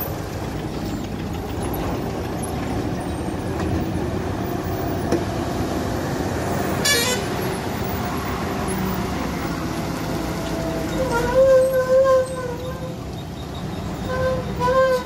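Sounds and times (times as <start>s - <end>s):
lorry diesel engine running: 0.0s - 15.0s.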